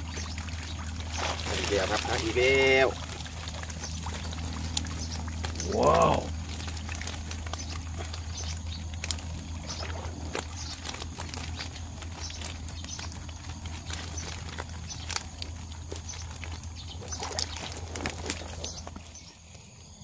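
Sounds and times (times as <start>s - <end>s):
fish flapping against wire mesh: 0.0s - 19.3s.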